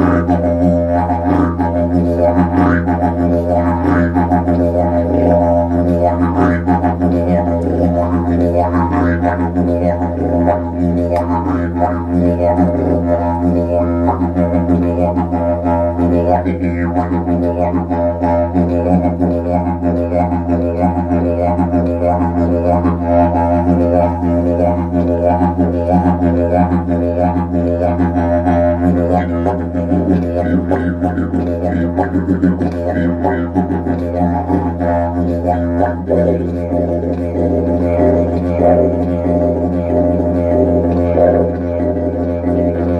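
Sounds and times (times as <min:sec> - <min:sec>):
didgeridoo drone: 0:00.0 - 0:42.9.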